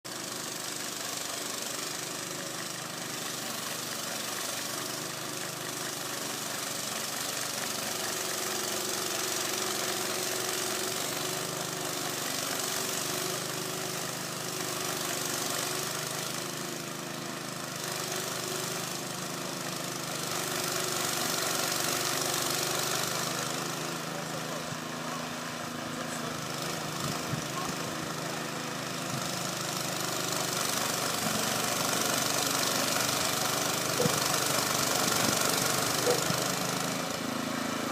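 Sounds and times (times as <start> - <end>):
snow blower engine running: 0.0 - 37.9.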